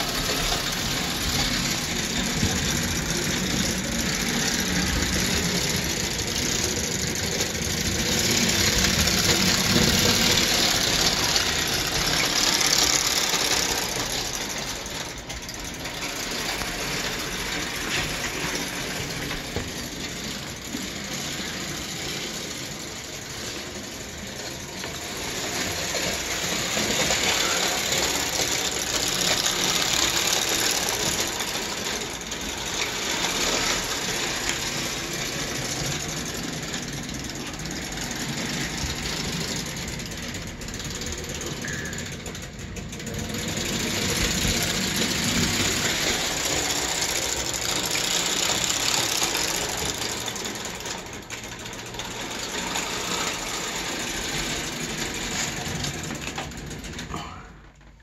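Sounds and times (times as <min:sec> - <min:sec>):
clockwork motor whirring: 0:00.0 - 0:57.3
toy train gears rattling: 0:00.0 - 0:58.0.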